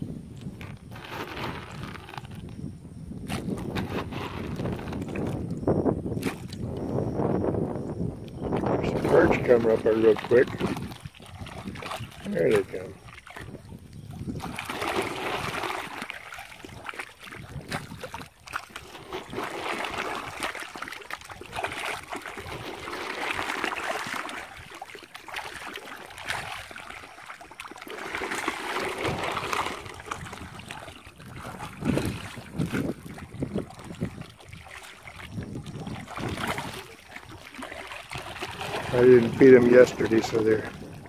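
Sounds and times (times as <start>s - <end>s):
fish splashing in water: 0.8s - 2.5s, 3.2s - 6.8s, 8.3s - 41.0s.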